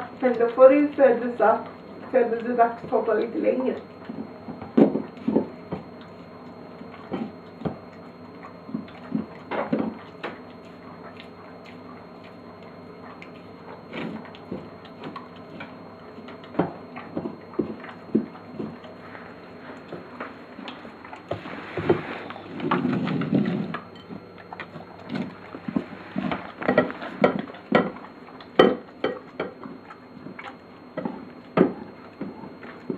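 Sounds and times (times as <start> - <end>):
dog licking and chewing: 0.1 - 32.9.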